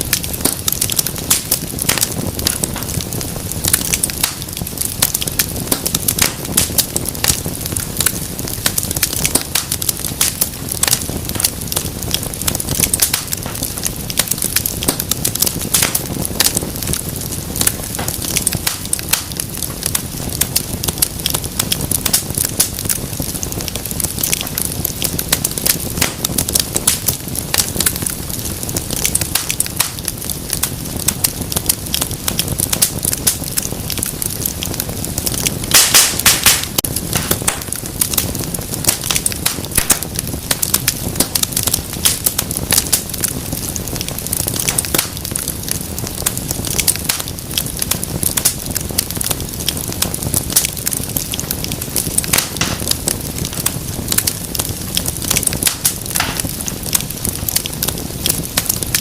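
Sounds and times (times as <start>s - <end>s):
low rumble of flame: 0.0s - 59.0s
wood fire crackling: 0.0s - 59.0s.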